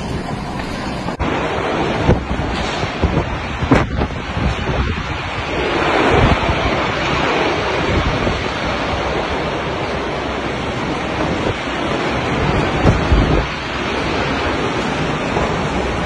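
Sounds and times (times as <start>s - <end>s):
storm wind gusting: 0.0s - 16.0s
wind buffeting microphone: 0.0s - 16.0s.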